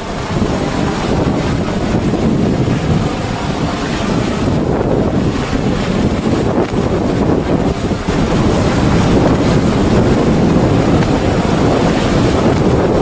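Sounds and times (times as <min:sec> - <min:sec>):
helicopter rotor and engines: 0:00.0 - 0:13.0
rotor-wash wind: 0:00.0 - 0:13.0.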